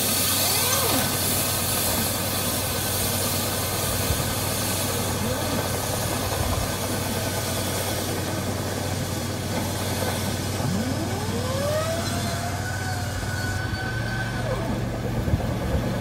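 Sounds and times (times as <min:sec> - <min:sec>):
vent cleaning machine humming: 0:00.0 - 0:16.0.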